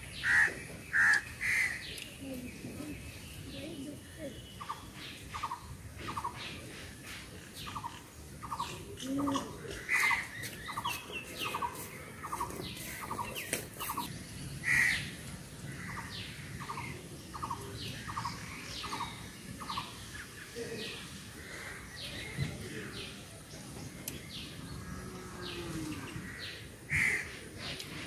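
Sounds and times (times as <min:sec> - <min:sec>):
birds chirping: 0:00.0 - 0:28.0
loud bird calls: 0:00.0 - 0:28.0.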